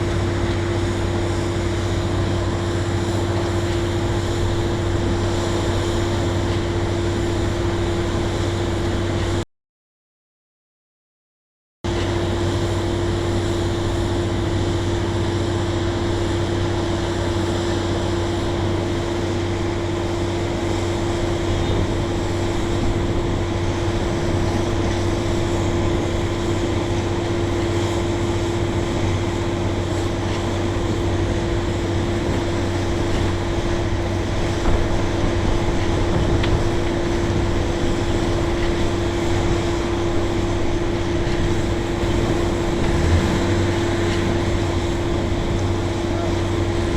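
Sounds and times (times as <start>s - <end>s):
machinery engine drone: 0.0s - 9.4s, 11.9s - 46.9s.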